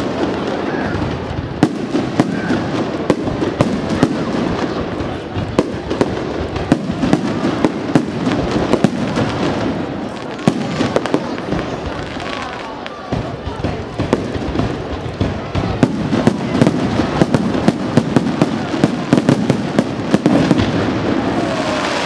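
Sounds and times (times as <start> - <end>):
firework bursts: 0.0 - 22.0
firework crackling: 0.0 - 22.0.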